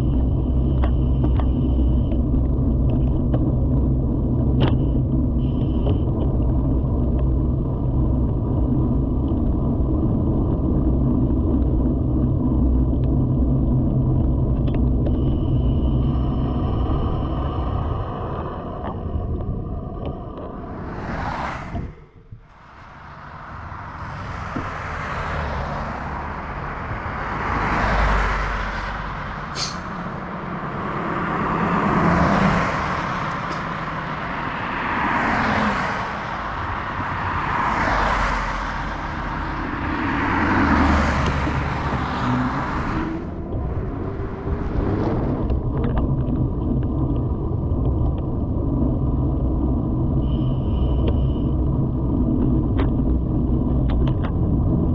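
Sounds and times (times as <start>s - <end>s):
car tyre noise passing: 0.0s - 54.9s
low traffic rumble: 0.0s - 54.9s.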